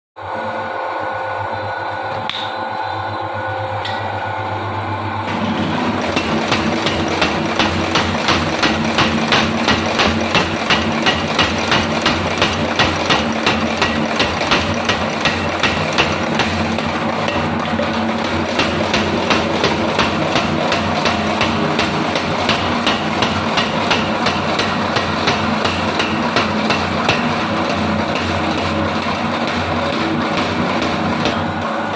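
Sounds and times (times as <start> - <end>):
machine motor humming: 0.2 - 31.9
power hammer striking: 2.1 - 3.0, 5.3 - 31.6.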